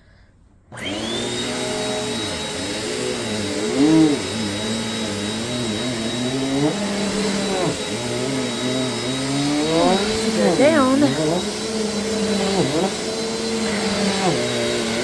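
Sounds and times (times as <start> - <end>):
vacuum cleaner whining: 0.6 - 15.0.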